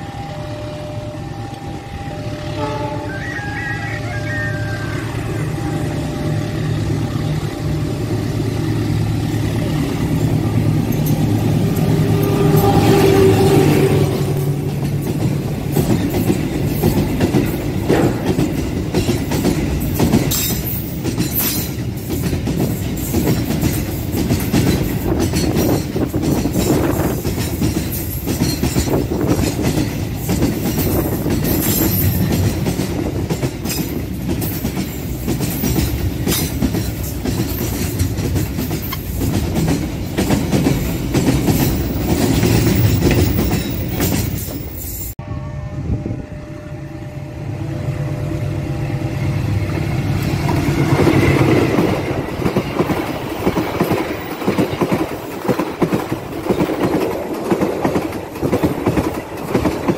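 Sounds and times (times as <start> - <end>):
train wheels rumbling on rail: 0.0 - 59.9
train wagons clacking: 1.5 - 45.2, 49.7 - 59.9.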